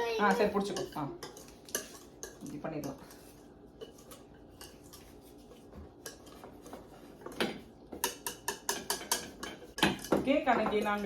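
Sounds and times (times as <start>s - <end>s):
spatula scraping mixing bowl: 0.0s - 11.0s
utensil clinking against bowl: 0.2s - 5.1s, 6.0s - 11.0s.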